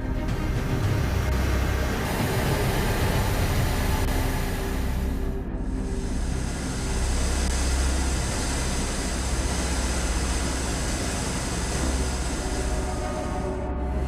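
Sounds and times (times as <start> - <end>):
jet engine rumble and hiss: 0.0 - 14.0.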